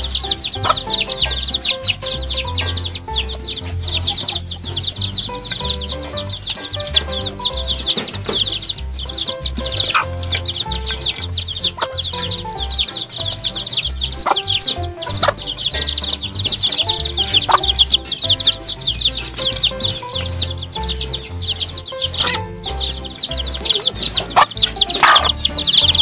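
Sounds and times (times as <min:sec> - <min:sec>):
background music with bass line: 0:00.0 - 0:26.0
chicks peeping: 0:00.0 - 0:26.0.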